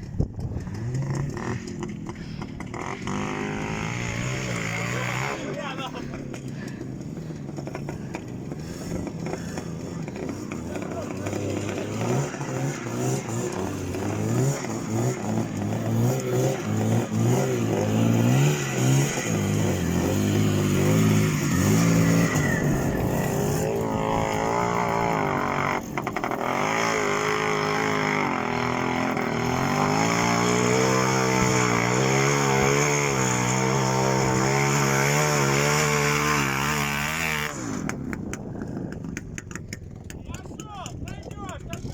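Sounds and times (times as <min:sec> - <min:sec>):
off-road vehicle engine revving: 0:00.0 - 0:39.2.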